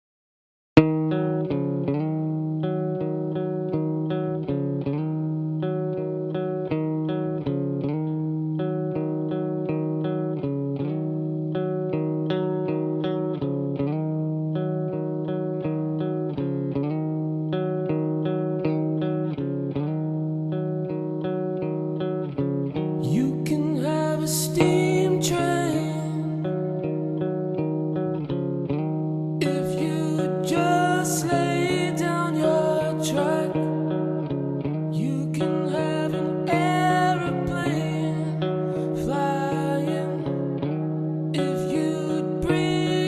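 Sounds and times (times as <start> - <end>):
picked guitar notes: 0.8 - 43.0.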